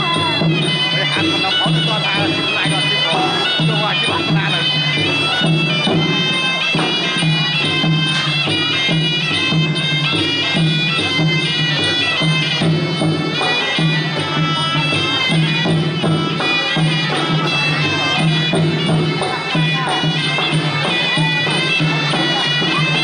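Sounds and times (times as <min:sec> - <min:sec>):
reed pipe melody: 0:00.0 - 0:23.0
steady drum beat: 0:00.0 - 0:23.0.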